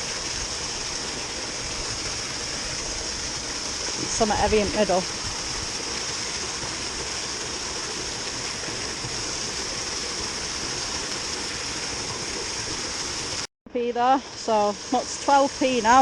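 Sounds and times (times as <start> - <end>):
water pouring: 0.0 - 13.5.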